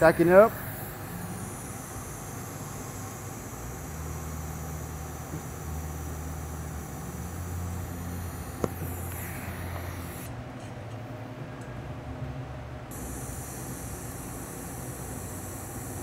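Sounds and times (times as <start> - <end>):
welding arc hum and hiss: 0.0 - 10.8, 12.8 - 16.0.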